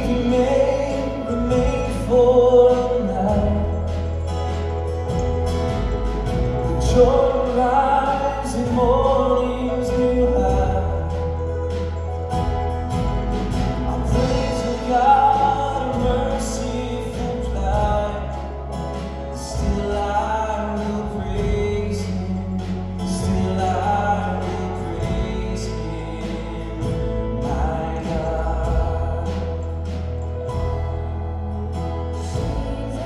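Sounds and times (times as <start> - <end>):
choir singing: 0.0 - 29.8, 32.0 - 33.0
sustained low notes: 0.0 - 33.0.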